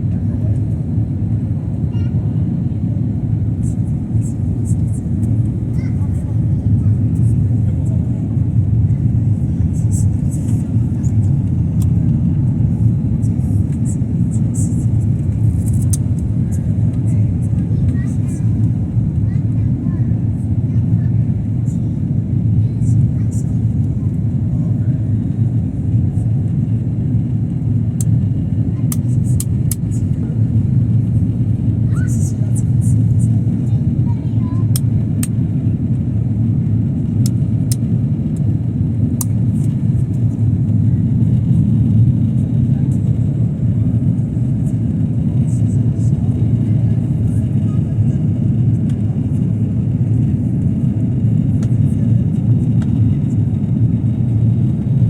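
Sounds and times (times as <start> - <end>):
jet engines and airflow rumble: 0.0 - 55.0.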